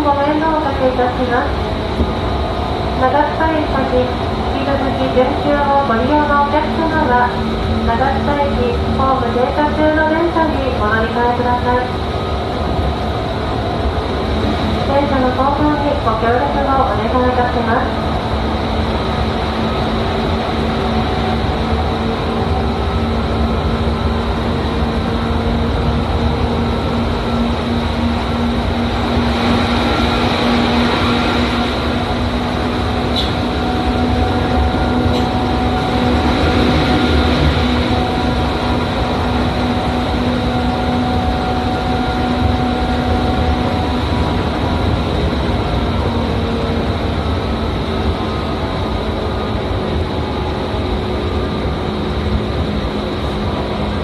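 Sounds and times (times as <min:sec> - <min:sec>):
constant hum: 0:00.0 - 0:54.0
train wheels rumbling on track: 0:00.0 - 0:54.0.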